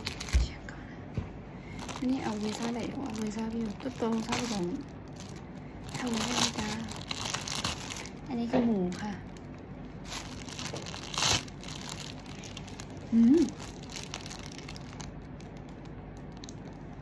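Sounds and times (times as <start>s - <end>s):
plastic bag crinkling: 0.0s - 0.6s, 1.6s - 17.0s.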